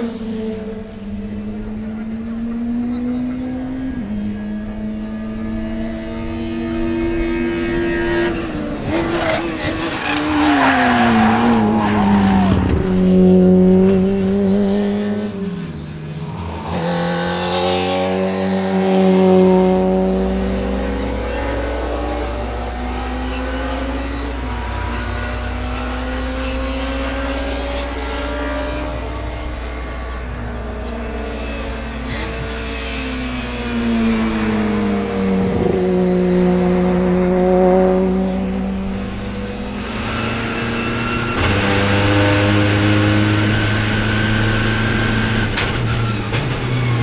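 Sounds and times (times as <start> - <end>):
racing car engines: 0.0 - 47.0.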